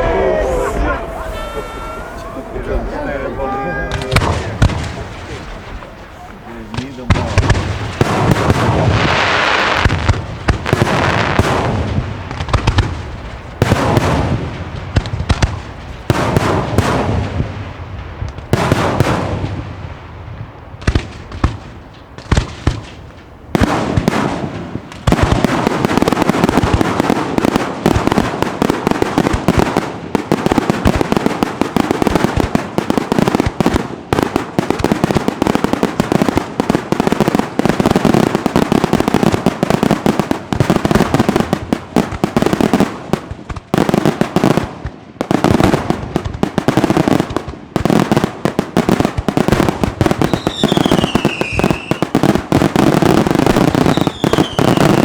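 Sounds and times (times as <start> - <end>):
fireworks crackling: 0.0 - 55.0.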